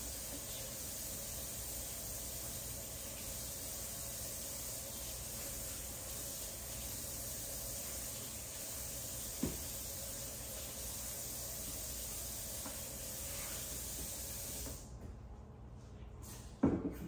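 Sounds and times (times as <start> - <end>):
kitchen tap running: 0.0 - 14.8.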